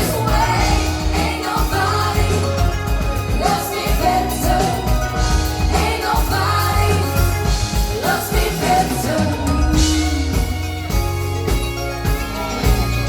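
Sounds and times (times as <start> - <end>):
live pop band with singer: 0.0 - 13.0.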